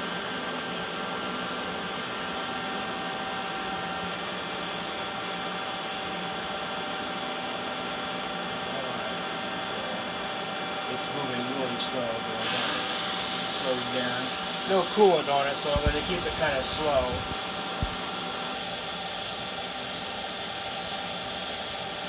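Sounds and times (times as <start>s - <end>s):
lathe machine hum and whine: 0.1s - 22.0s.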